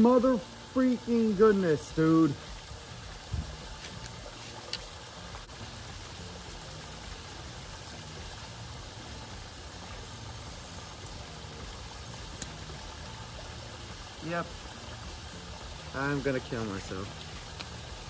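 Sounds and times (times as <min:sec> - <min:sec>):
creek water splashing over wall: 0:00.0 - 0:18.0.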